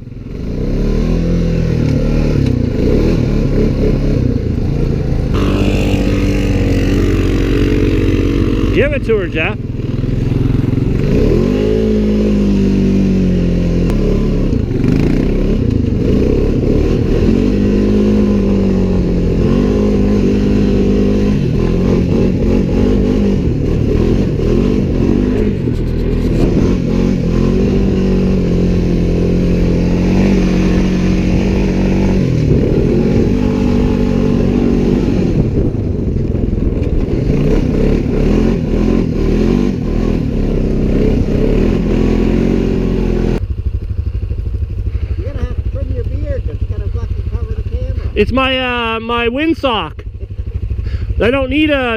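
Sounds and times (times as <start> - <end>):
off-road vehicle engine revving: 0.0 - 51.9.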